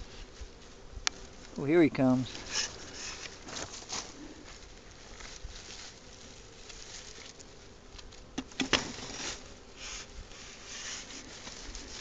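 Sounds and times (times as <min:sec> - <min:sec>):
scraping rustles: 0:00.0 - 0:12.0.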